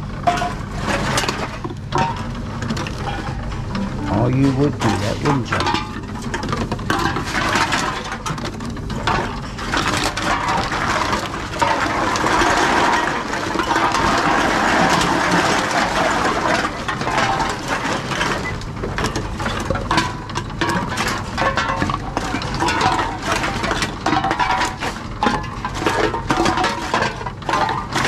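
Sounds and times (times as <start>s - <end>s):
cans and bottles clinking: 0.2s - 28.0s.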